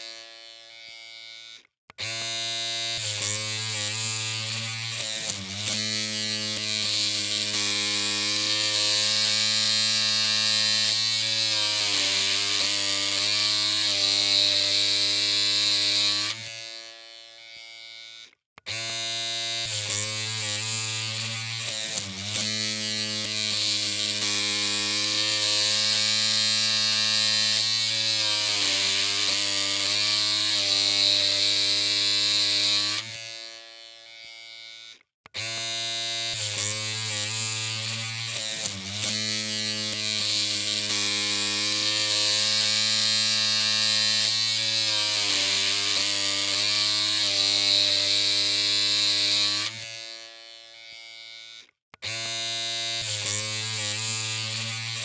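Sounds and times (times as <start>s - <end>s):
electric hair clippers humming: 0.0s - 55.0s.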